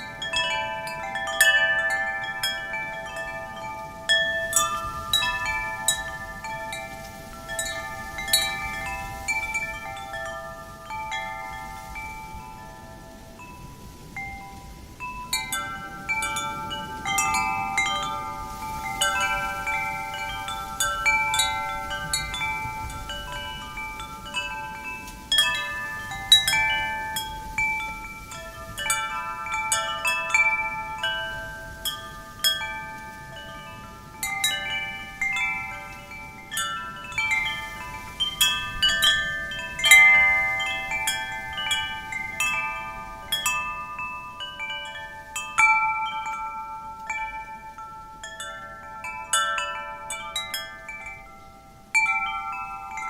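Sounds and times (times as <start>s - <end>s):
faint wind rush: 0.0s - 53.0s
metal wind chimes ringing: 0.0s - 53.0s.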